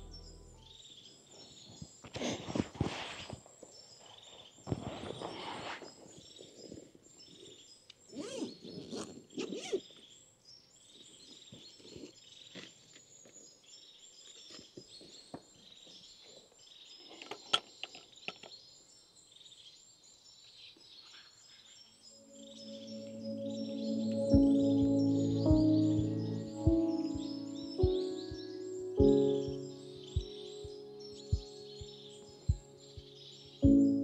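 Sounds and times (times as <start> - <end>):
small birds chirping: 3.2 - 34.0.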